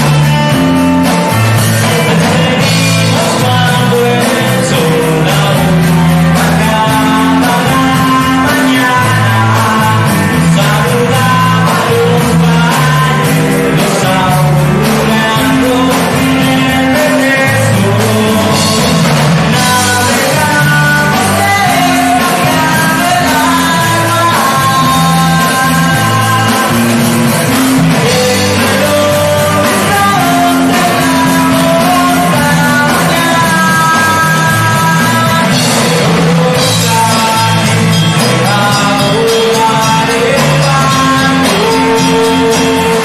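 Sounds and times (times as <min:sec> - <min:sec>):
bass guitar: 0:00.0 - 0:43.0
drums: 0:00.0 - 0:43.0
electric guitars: 0:00.0 - 0:43.0
person singing: 0:00.0 - 0:43.0.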